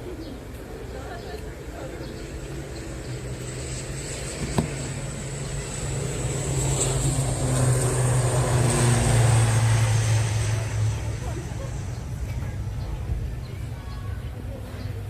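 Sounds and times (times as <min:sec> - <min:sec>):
engine hum with hiss: 0:00.0 - 0:15.0.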